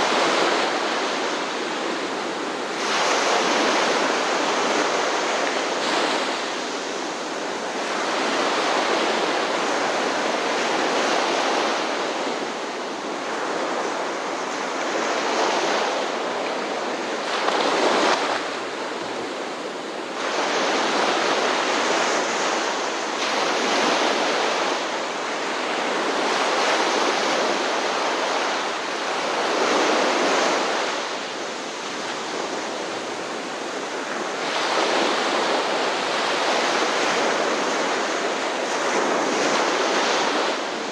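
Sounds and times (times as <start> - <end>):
ocean surf washing onto shore: 0.0 - 40.9.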